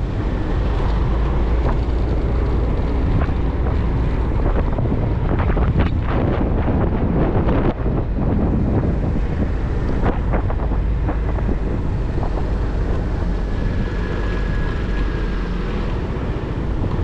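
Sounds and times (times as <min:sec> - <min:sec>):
motorcycle engine rumble: 0:00.0 - 0:17.0
road noise: 0:00.0 - 0:17.0
wind buffeting microphone: 0:00.0 - 0:17.0.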